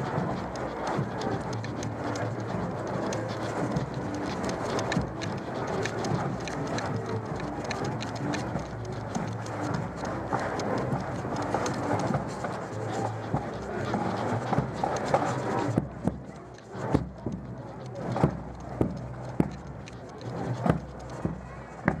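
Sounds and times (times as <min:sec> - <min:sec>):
camera clicking and rattling: 0:00.0 - 0:22.0
street crowd murmur: 0:00.0 - 0:22.0.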